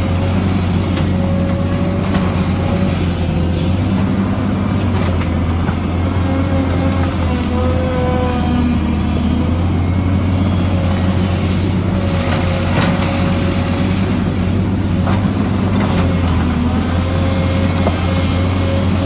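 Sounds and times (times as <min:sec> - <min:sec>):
diesel excavator engine: 0:00.0 - 0:19.0.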